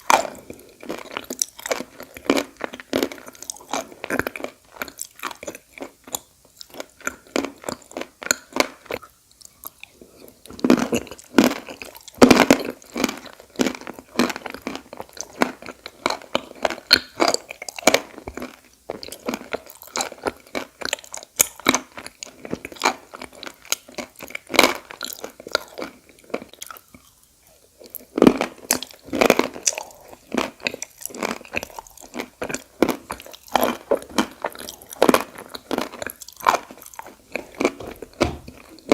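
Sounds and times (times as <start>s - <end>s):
crunching and chewing clay: 0.0s - 38.9s.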